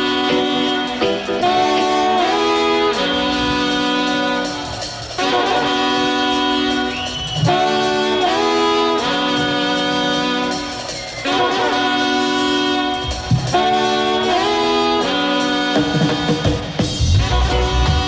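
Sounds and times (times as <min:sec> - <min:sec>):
horn section playing chords: 0:00.0 - 0:18.0.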